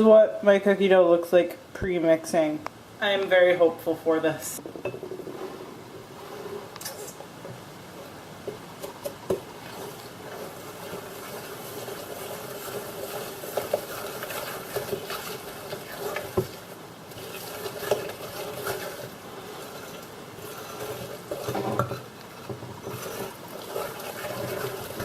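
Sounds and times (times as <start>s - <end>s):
dough stirring scraping in bowl: 4.6s - 25.0s.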